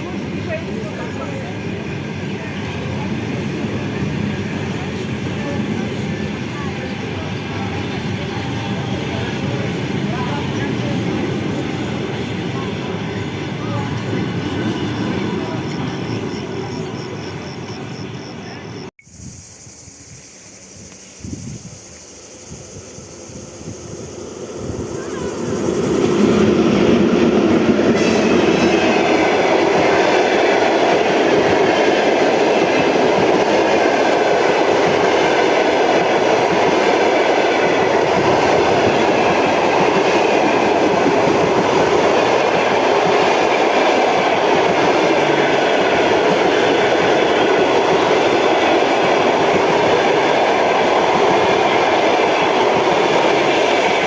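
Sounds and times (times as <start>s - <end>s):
train running past on rails: 0.0s - 54.0s.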